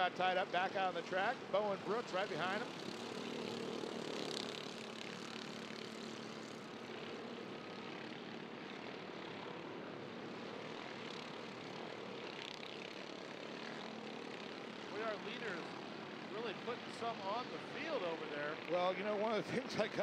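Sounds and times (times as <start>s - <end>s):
kart engines droning: 0.0s - 20.0s.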